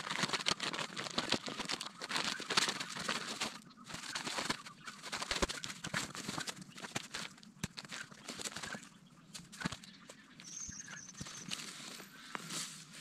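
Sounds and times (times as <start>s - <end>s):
stuff sack rustling and crinkling: 0.0s - 13.0s
bird calling: 1.0s - 13.0s.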